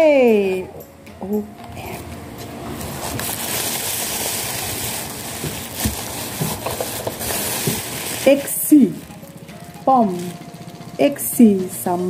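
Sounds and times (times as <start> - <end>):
plastic bag rustling: 1.8 - 11.6.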